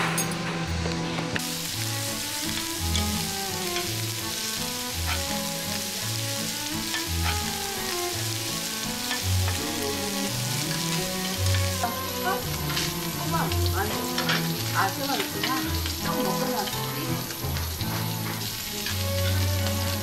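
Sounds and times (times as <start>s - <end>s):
eel sizzling on griddle: 0.6s - 20.0s.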